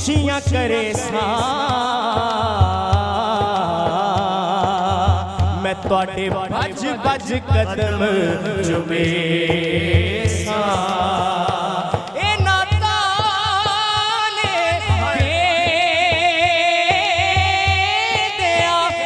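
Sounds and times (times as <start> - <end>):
wordless melismatic singing: 0.0 - 19.0.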